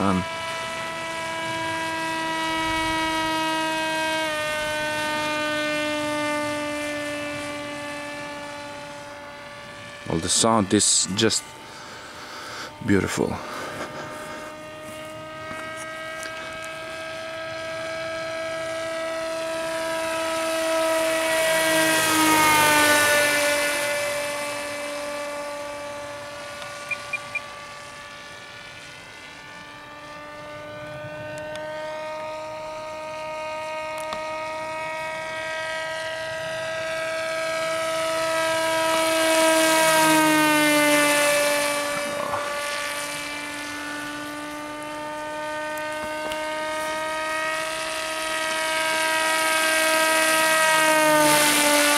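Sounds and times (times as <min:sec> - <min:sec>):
model aircraft motor whine: 0:00.0 - 0:51.9.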